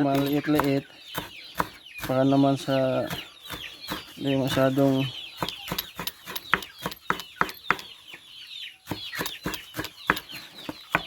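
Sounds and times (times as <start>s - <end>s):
knife chopping leaves: 0.0s - 7.9s, 8.8s - 11.0s
chickens clucking: 0.0s - 11.0s.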